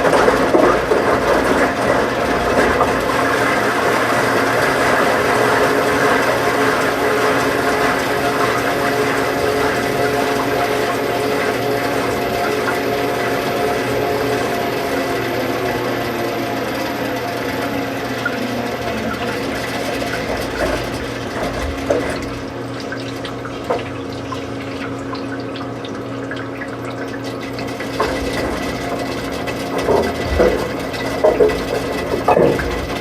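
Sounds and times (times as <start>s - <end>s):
washing machine hum: 0.0s - 33.0s
water flowing in washing machine: 0.0s - 33.0s.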